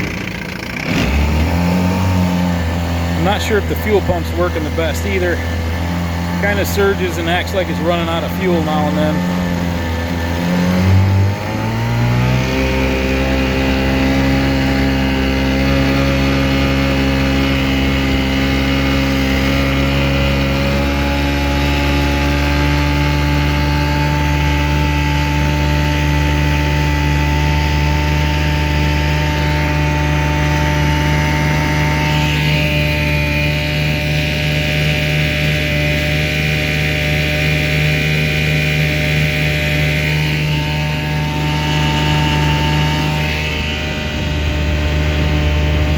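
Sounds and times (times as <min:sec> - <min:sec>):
outboard motor running: 0:00.0 - 0:45.9.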